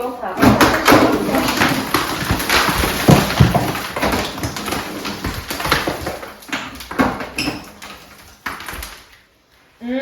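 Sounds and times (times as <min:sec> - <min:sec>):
demolition scraping and rattling: 0:00.0 - 0:09.1
knocks: 0:00.4 - 0:09.0.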